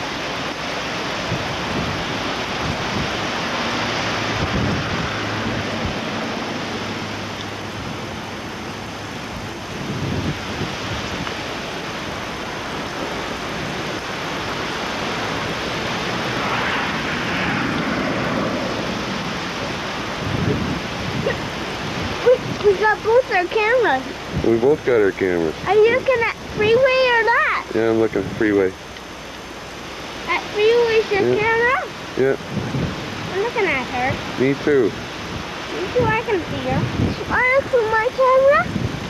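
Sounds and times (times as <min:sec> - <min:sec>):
wind buffeting microphone: 0:00.0 - 0:28.8, 0:30.0 - 0:39.0.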